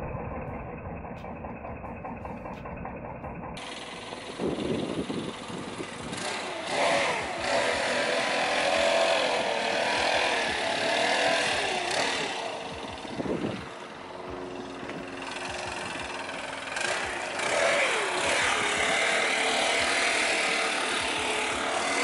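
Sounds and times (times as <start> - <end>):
leaf blower running: 3.5 - 22.0.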